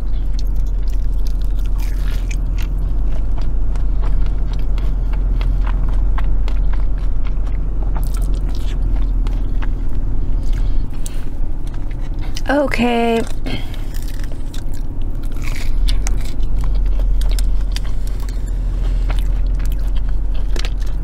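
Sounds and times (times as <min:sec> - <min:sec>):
crunchy biting and chewing: 0:00.0 - 0:12.5, 0:13.1 - 0:21.0
low hum in car cabin: 0:00.0 - 0:21.0.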